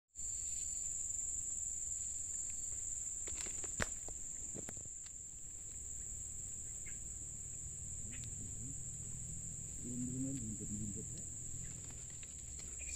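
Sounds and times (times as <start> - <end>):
high-pitched insect drone: 0.2 - 12.9.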